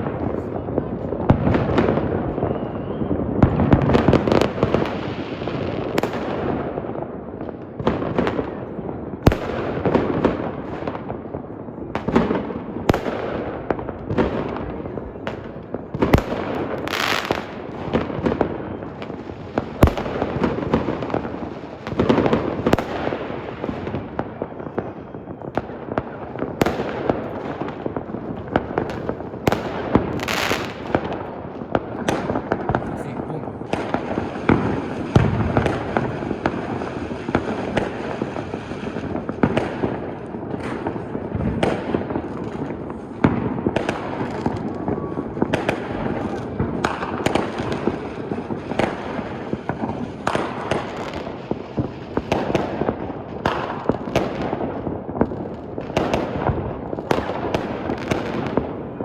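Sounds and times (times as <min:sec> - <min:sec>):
fireworks bursting and crackling: 0:00.0 - 0:59.0
sharp loud firework reports: 0:00.0 - 0:59.0.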